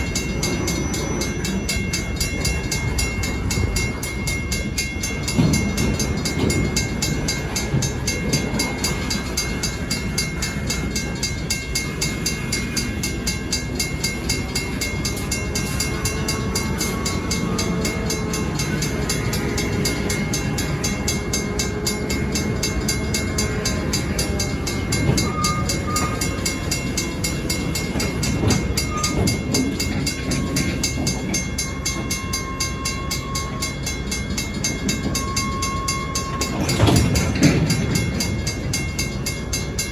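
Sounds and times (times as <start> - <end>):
freight train rumbling on track: 0.0 - 39.9.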